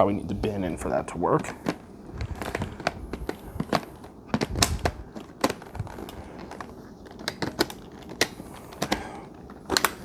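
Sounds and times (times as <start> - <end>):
plastic clicks and knocks: 1.4 - 10.0.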